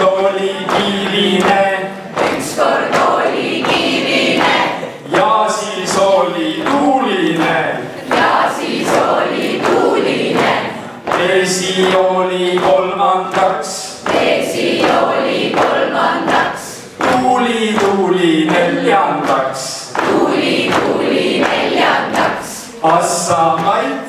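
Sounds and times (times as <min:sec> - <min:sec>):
group of people singing: 0:00.0 - 0:24.0.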